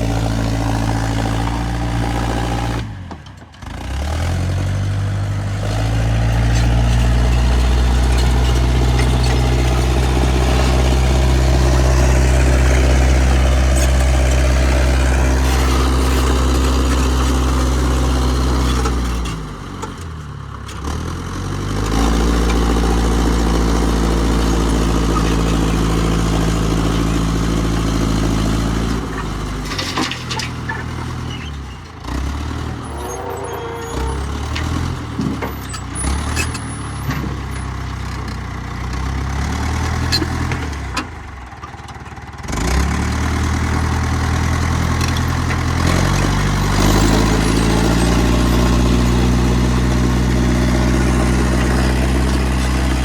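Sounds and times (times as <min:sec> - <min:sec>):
loader engine revving: 0:00.0 - 0:40.9, 0:42.4 - 0:53.0.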